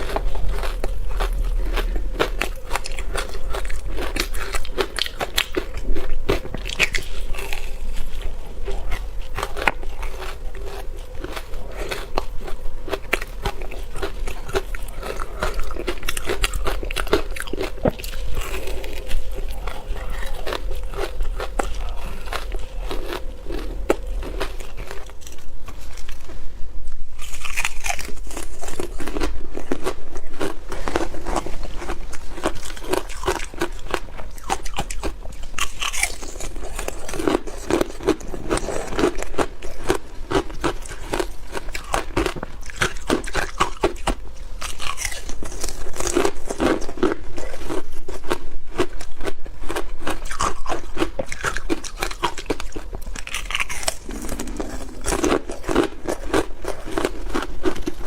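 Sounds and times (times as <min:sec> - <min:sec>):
ice being chewed crunching: 0:00.0 - 0:26.4, 0:27.2 - 0:58.0.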